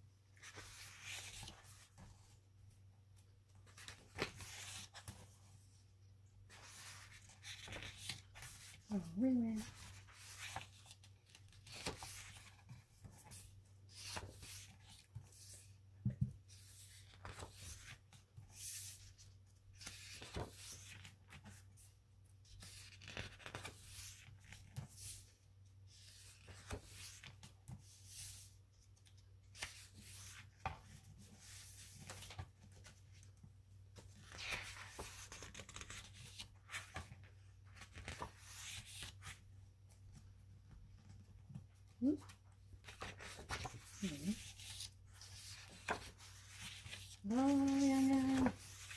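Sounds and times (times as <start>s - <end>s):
paper pages rustling: 0.3s - 2.4s, 3.2s - 5.6s, 6.4s - 8.9s, 9.6s - 21.9s, 22.6s - 25.3s, 26.0s - 48.9s.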